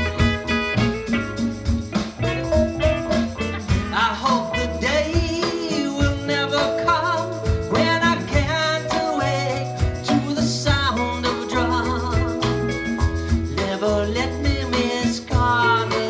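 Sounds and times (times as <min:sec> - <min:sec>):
congas: 0:00.0 - 0:16.0
drum kit: 0:00.0 - 0:16.0
electric bass: 0:00.0 - 0:16.0.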